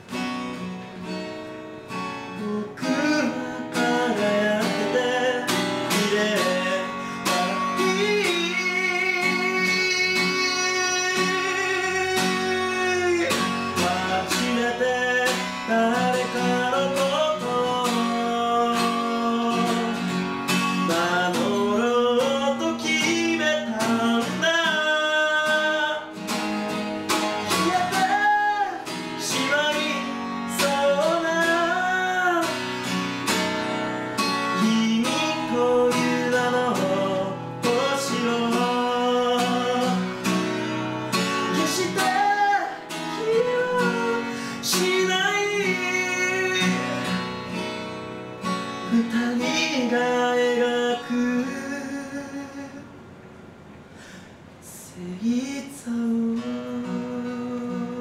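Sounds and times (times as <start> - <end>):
acoustic guitar strumming: 0.0 - 58.0
man singing: 2.2 - 47.6, 48.7 - 52.9, 54.6 - 58.0.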